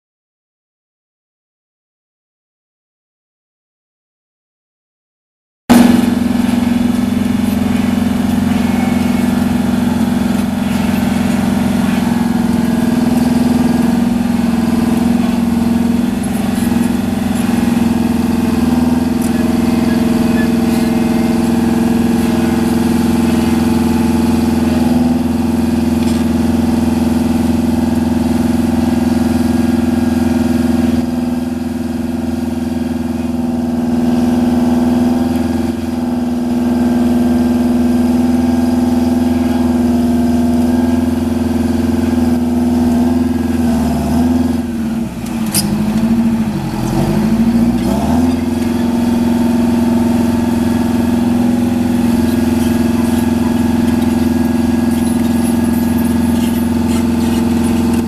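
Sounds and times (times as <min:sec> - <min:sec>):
bulldozer diesel engine droning: 0:05.7 - 0:58.0.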